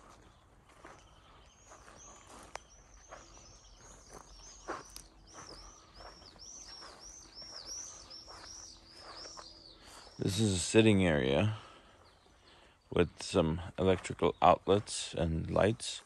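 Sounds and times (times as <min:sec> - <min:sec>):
footsteps on grass: 0:00.0 - 0:16.0
songbird chirping: 0:00.0 - 0:16.0.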